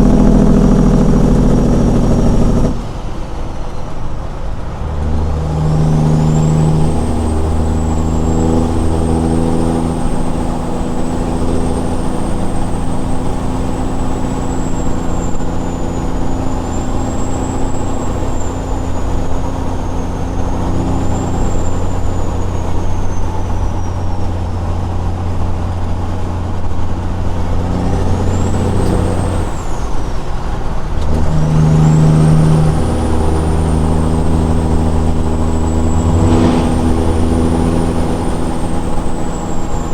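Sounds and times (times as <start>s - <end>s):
high wavering whine: 0.0s - 22.6s, 28.1s - 39.9s
diesel truck engine droning: 0.0s - 39.9s.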